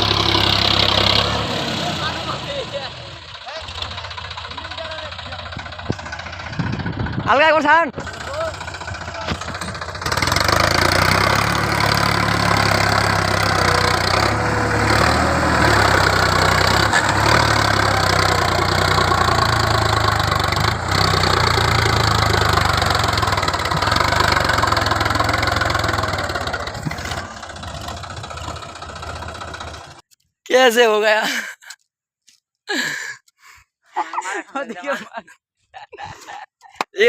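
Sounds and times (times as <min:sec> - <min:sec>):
tractor diesel engine droning: 0:00.0 - 0:30.0.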